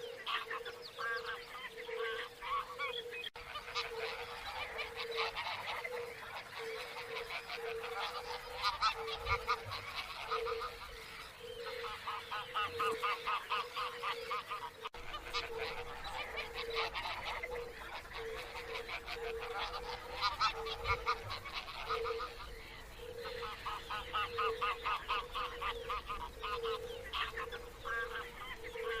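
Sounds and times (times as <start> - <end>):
water birds honking: 0.0 - 29.0.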